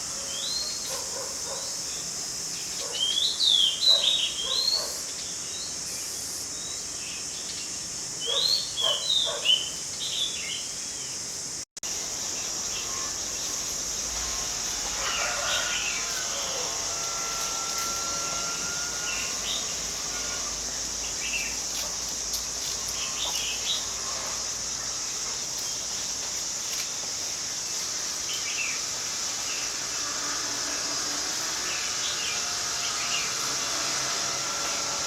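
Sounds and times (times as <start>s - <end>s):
insect drone: 0.0s - 35.0s.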